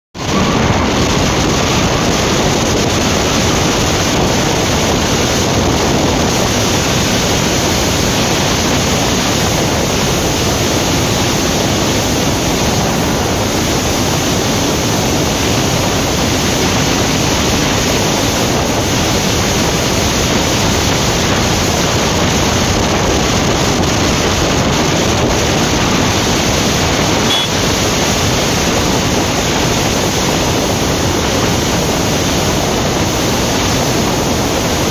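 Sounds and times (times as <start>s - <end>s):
loud wind rush on microphone: 0.2s - 34.9s.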